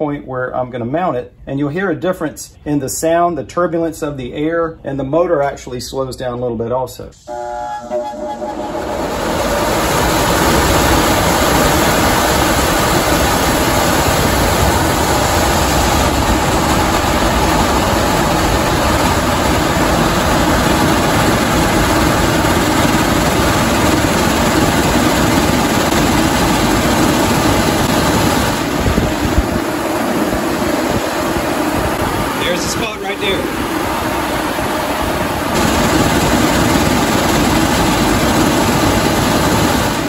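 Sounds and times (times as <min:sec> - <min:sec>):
blower fan rushing air: 0:07.2 - 0:40.0.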